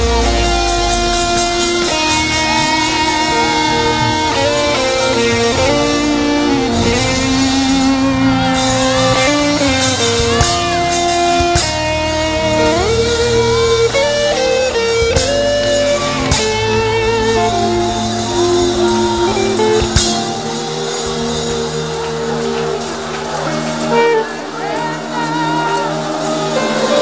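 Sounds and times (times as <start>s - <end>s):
bass: 0.0s - 24.0s
drums: 0.0s - 27.0s
guitar melody: 0.0s - 27.0s.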